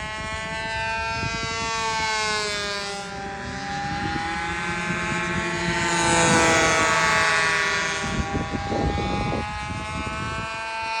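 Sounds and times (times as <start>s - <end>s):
low buffeting noise: 0.0s - 10.6s
small model airplane engine: 0.0s - 11.0s.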